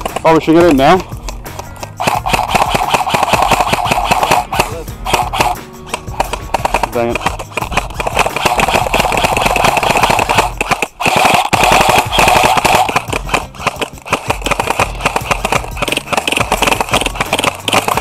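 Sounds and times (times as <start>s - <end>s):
airsoft rifles firing rapidly: 0.0s - 18.0s.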